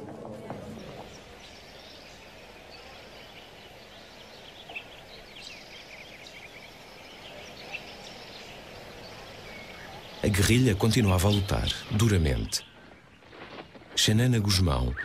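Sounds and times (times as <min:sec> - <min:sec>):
birds chirping and trilling: 0:00.2 - 0:15.0
faint steady hiss: 0:00.8 - 0:15.0.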